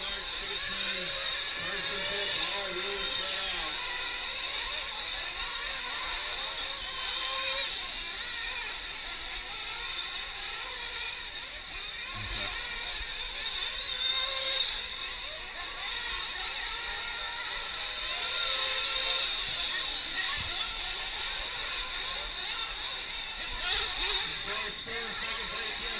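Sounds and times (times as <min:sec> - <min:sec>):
rc truck engines whining: 0:00.0 - 0:25.9.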